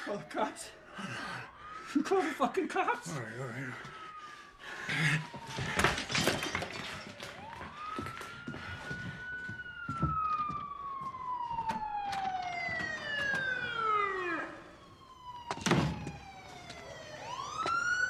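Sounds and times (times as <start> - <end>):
police sirens wailing: 0.0 - 18.0.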